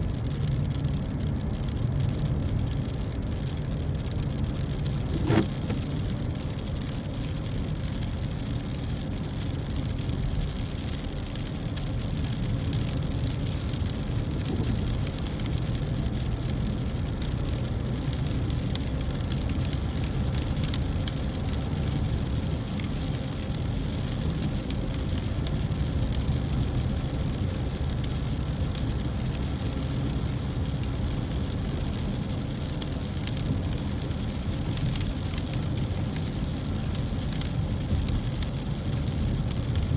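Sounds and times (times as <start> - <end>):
car and tyres rumbling on road: 0.0 - 39.9
rain ticking on car: 0.0 - 39.9.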